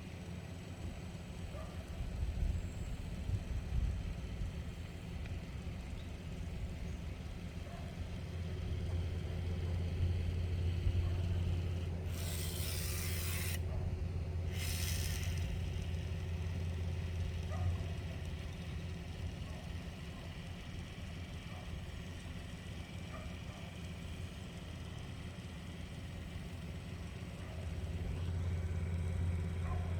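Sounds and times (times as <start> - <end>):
low engine rumble: 0.0 - 29.9.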